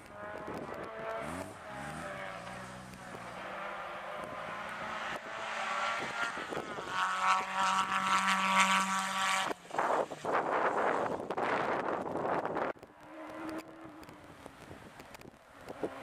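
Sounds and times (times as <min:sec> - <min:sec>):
racing car engine at high revs: 0:00.0 - 0:16.0.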